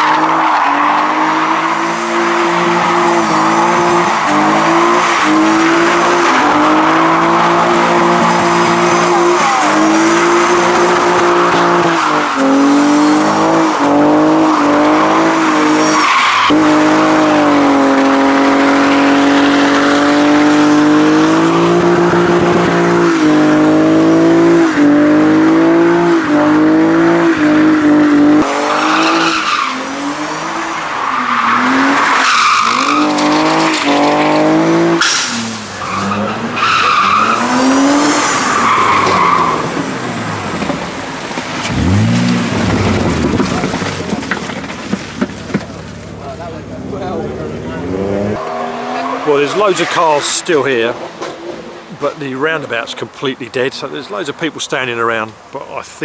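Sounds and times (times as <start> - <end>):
car engine revving: 0.0 - 52.1
tyres squealing and skidding: 0.0 - 54.9.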